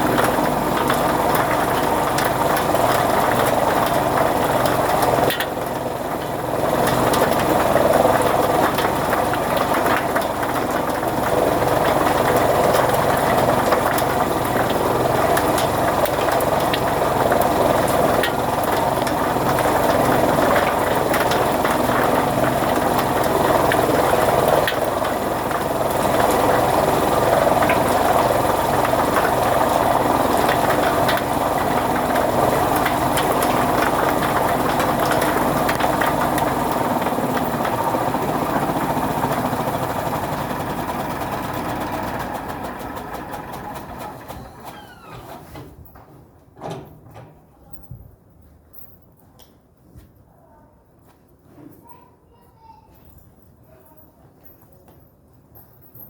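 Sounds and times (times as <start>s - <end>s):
fodder cutting machine running: 0.0s - 45.2s.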